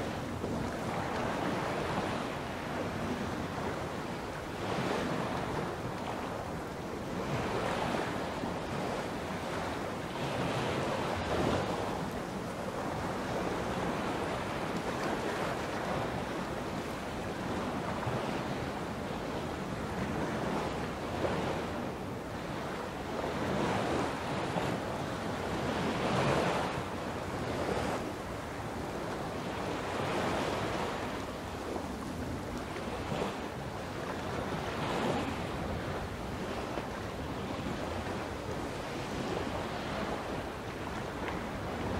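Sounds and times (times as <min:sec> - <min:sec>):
sea waves breaking on a beach: 0:00.0 - 0:41.9.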